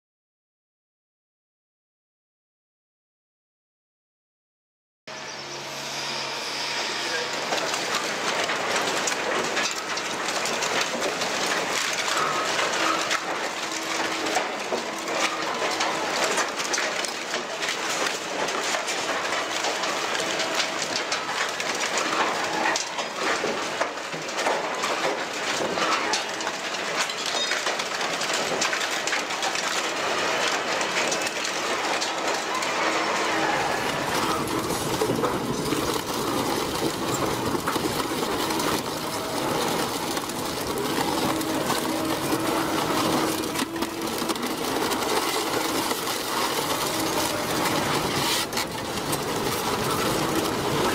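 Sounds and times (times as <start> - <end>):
industrial shredder running: 5.1 - 50.9
scrap clattering off conveyor: 5.6 - 50.9.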